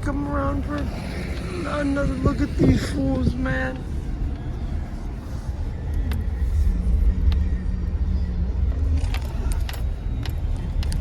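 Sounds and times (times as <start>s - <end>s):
car engine and tyres rumbling: 0.0s - 11.0s
steady hum: 0.0s - 11.0s.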